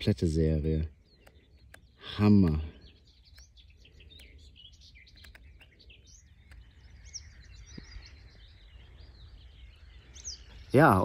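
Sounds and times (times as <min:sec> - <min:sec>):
songbird chirps and trills: 0:00.0 - 0:11.0.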